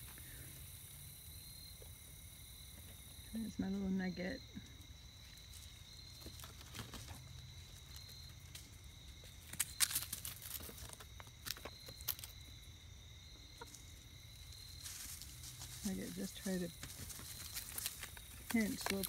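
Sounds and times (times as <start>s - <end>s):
high insect trill: 0.0s - 19.0s.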